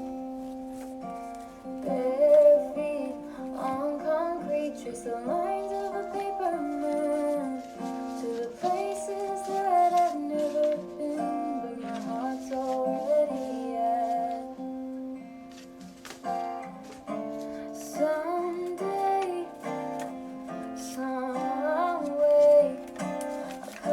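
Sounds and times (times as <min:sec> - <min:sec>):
woman singing: 0:01.6 - 0:15.2, 0:17.1 - 0:23.9.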